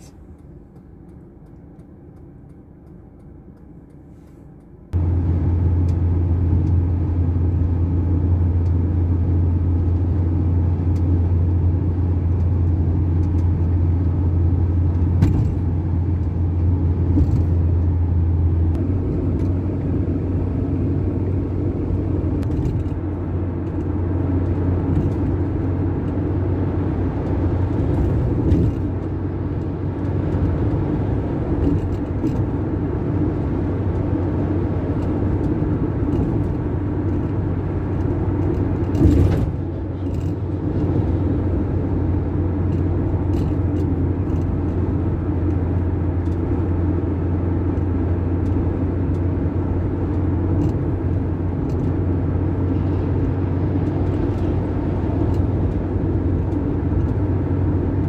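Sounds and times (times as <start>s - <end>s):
vehicle road and engine drone: 0.0s - 58.0s.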